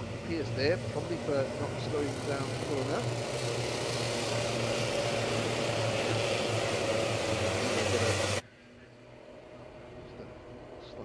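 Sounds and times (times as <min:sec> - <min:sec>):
racing kart engines running: 0:00.0 - 0:11.0.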